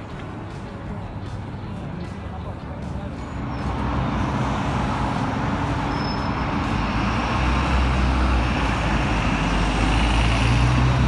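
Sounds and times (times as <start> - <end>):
bus engine rumble: 0.0 - 11.0
cars passing: 0.0 - 11.0.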